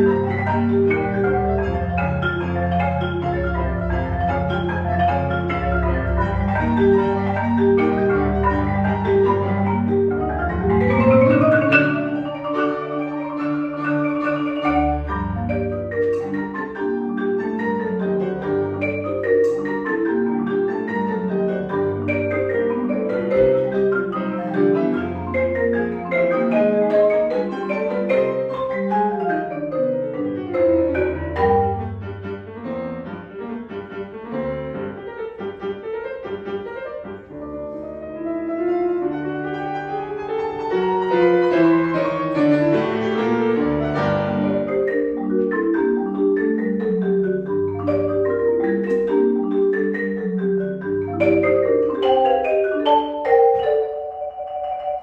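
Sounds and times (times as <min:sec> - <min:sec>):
marimba played with mallets: 0:00.0 - 0:32.4, 0:39.1 - 0:55.0
piano accompaniment: 0:00.0 - 0:55.0.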